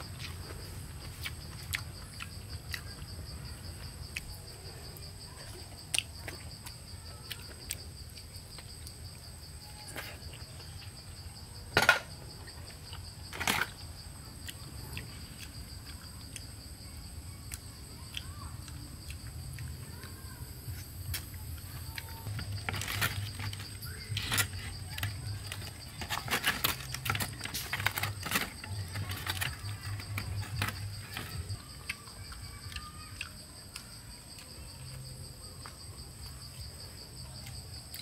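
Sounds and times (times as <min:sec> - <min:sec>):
small clicks of eating: 0:00.0 - 0:03.2, 0:03.9 - 0:10.9, 0:12.5 - 0:35.8, 0:37.3 - 0:38.0
insect chorus: 0:00.0 - 0:38.0.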